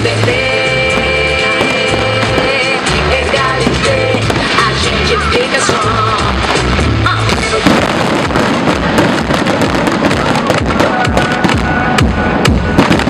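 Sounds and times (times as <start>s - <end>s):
fireworks crackling: 0.0s - 13.0s
music soundtrack: 0.0s - 13.0s.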